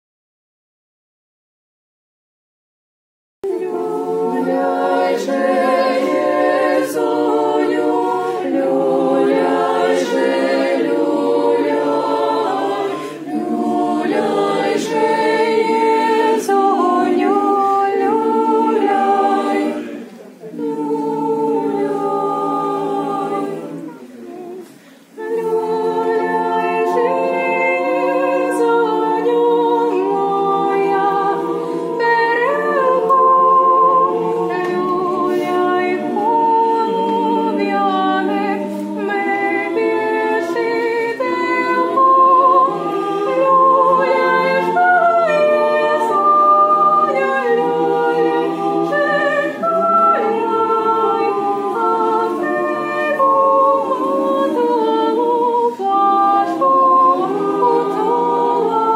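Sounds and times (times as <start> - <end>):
choir singing a cappella: 3.4 - 58.9.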